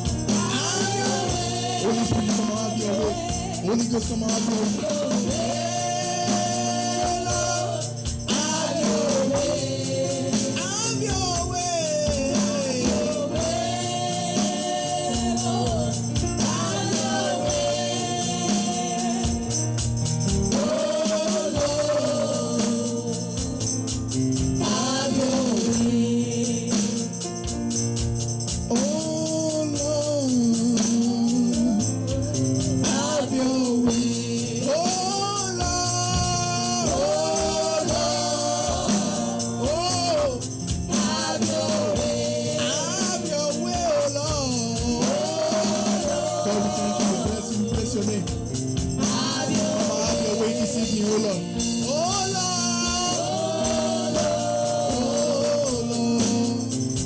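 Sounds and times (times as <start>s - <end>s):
band accompaniment: 0.0s - 57.0s
gospel choir singing: 0.0s - 57.0s.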